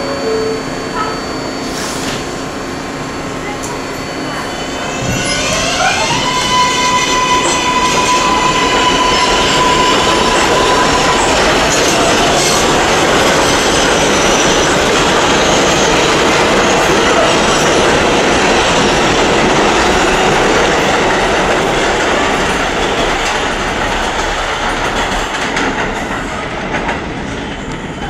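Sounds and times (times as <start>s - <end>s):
subway train wheels on rails: 0.0s - 28.0s.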